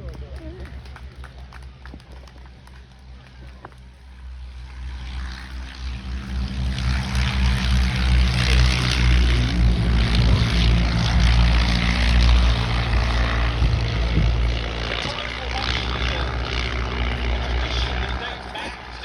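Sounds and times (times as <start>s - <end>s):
propeller aircraft piston engines: 0.0s - 19.0s.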